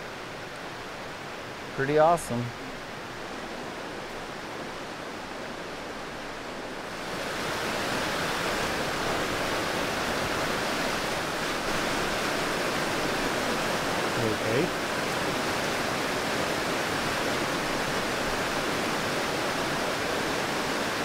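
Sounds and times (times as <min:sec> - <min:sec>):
creek rushing over rocks: 0:00.0 - 0:21.0.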